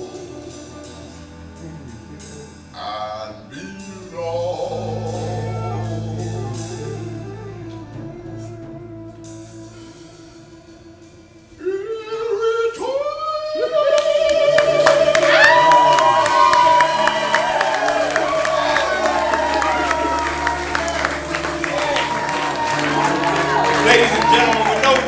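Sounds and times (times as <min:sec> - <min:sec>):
instrumental music: 0:00.0 - 0:12.8, 0:13.6 - 0:25.0
person singing long notes: 0:00.0 - 0:25.0.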